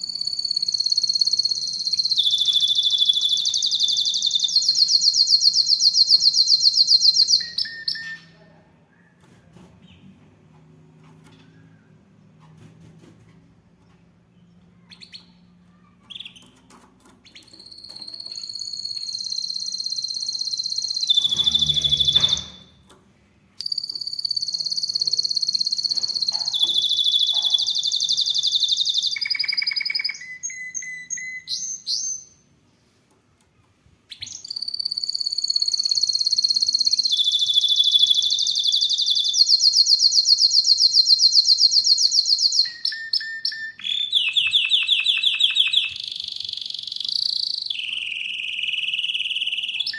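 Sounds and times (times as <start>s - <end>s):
canary singing trills: 0.0s - 8.4s, 14.8s - 22.8s, 23.6s - 32.5s, 34.1s - 49.9s.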